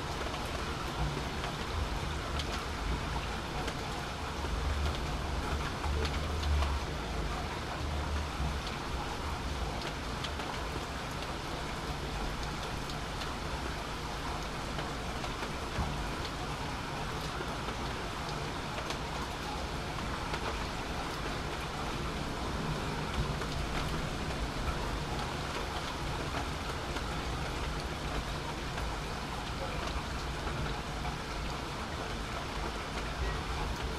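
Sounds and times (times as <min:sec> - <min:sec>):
raindrops ticking: 0:00.0 - 0:33.9
steady rain falling: 0:00.0 - 0:33.9.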